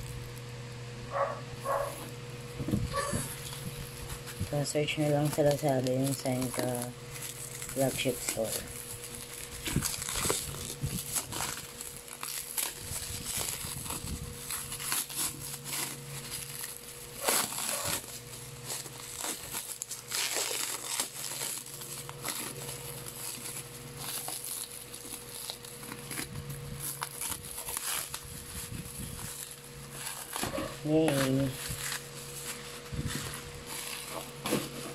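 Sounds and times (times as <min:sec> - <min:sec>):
plastic wrap crinkling: 0:01.1 - 0:34.9.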